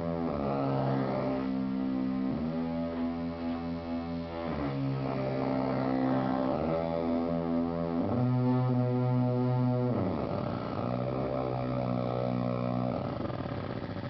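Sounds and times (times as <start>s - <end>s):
buzzy electronic drone: 0.0s - 14.0s.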